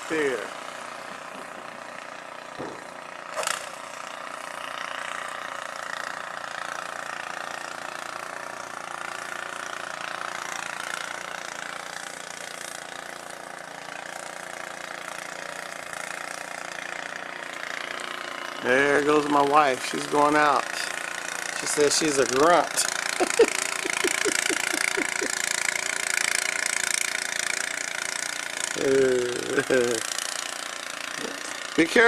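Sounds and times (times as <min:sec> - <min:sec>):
snow blower engine running: 0:00.0 - 0:32.0.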